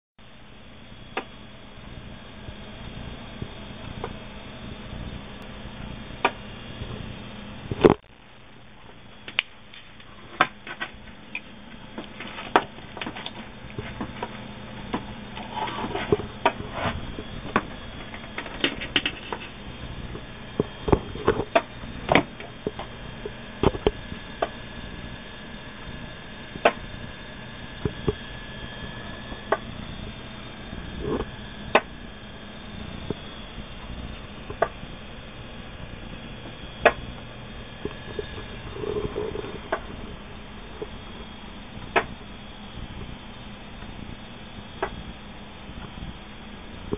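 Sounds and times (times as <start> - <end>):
low electrical hum: 0.2 - 46.9.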